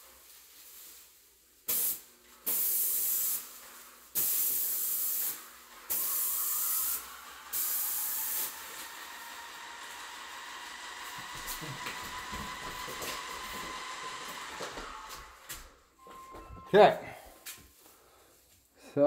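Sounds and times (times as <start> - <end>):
spray gun hissing in bursts: 0.0 - 15.5.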